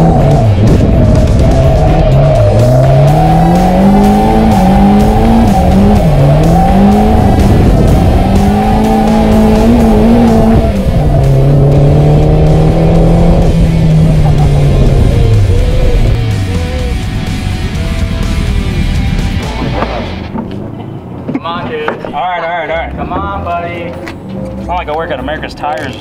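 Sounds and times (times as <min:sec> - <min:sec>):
car engine revving: 0:00.0 - 0:21.4.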